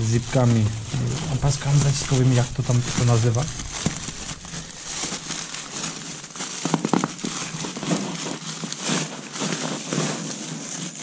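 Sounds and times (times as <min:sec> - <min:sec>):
foil duct crinkling and crackling: 0:00.0 - 0:11.0.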